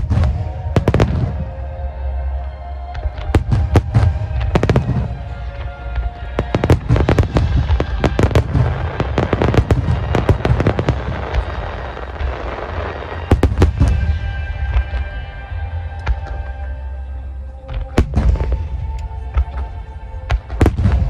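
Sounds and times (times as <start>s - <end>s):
fireworks bursting: 0.0s - 1.7s, 2.9s - 16.5s, 17.7s - 21.0s
deep rumble: 0.0s - 21.0s.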